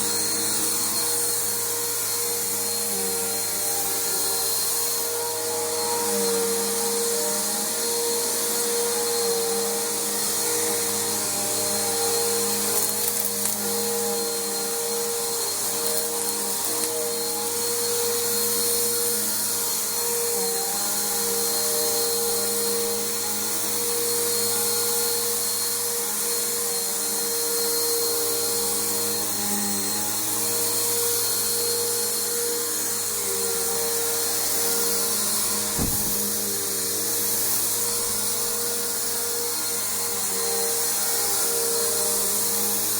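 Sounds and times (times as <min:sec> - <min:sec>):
vacuum cleaner running on carpet: 0:00.0 - 0:42.9.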